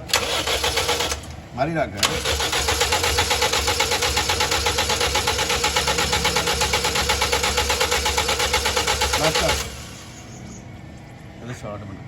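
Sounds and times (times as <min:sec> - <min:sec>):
car engine idling with ticking: 0:02.1 - 0:12.0.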